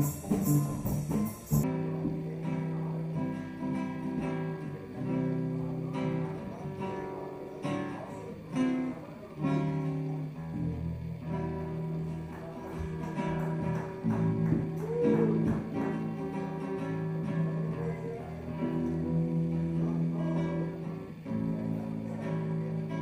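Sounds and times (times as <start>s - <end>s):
classical guitar strumming chords: 0.0s - 23.0s
electric bass playing: 0.0s - 23.0s.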